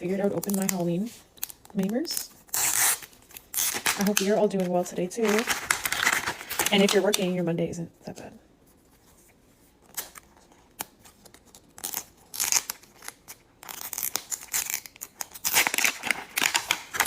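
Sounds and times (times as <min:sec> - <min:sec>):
plastic packaging crinkling and tearing: 0:00.0 - 0:07.3, 0:09.8 - 0:17.0.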